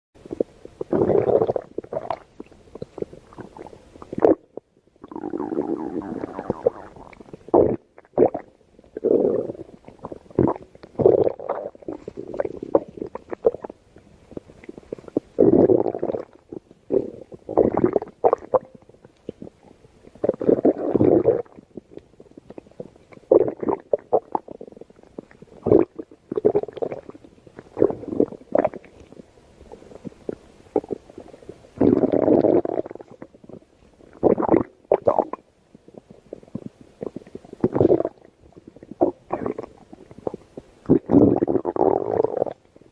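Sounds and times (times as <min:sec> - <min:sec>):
stomach growling and gurgling: 0:00.2 - 0:42.9.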